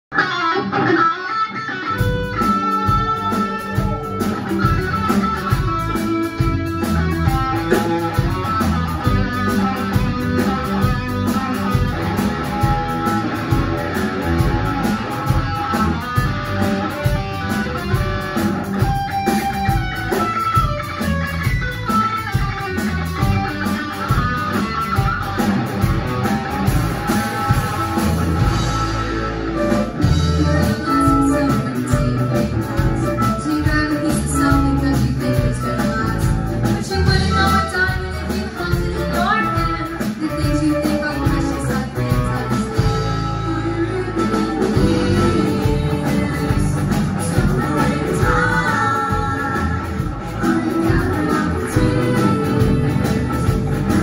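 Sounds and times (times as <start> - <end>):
bass guitar: 0.1 - 54.0
drums: 0.1 - 54.0
electric guitar: 0.1 - 54.0.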